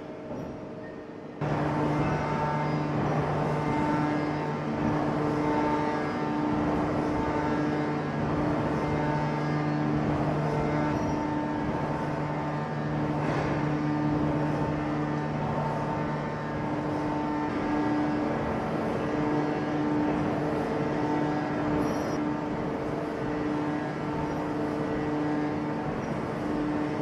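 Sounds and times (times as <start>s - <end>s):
heavy machinery drone: 0.0s - 27.0s.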